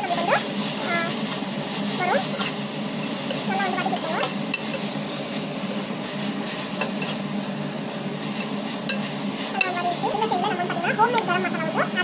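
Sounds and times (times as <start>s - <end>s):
vegetables sizzling in a pot: 0.0s - 12.0s.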